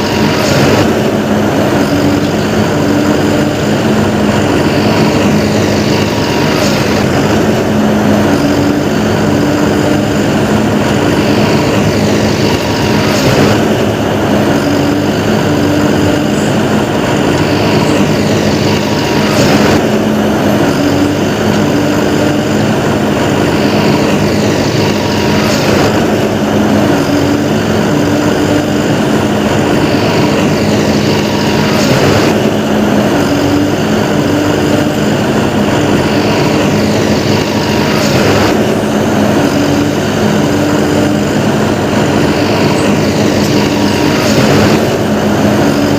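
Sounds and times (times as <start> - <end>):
vehicle engine drone: 0.0 - 45.9.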